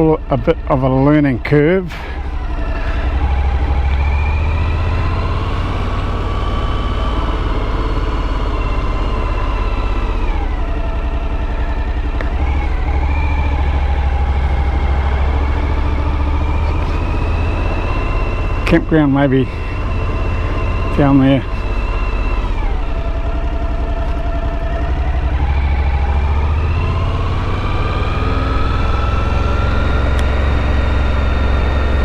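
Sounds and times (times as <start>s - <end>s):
heavy low rumble: 0.0s - 32.0s
motorcycle engine running: 0.0s - 32.0s.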